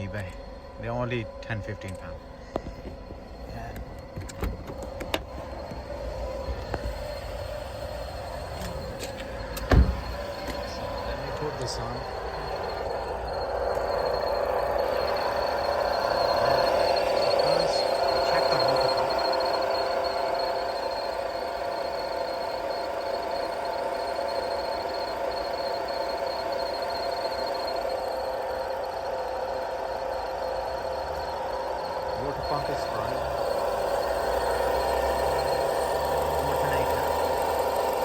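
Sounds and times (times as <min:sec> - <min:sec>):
car engine humming with whine: 0:00.0 - 0:38.0.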